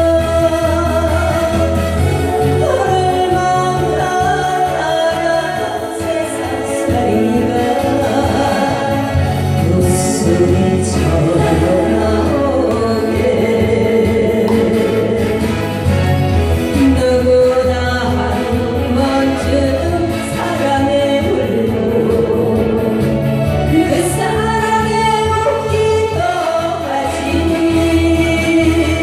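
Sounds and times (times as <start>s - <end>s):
instrumental accompaniment: 0.0s - 29.0s
person singing: 0.0s - 29.0s.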